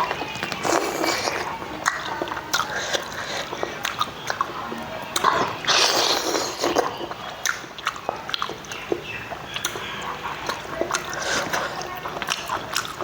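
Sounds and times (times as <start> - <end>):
person chewing and lip-smacking: 0.0 - 13.0.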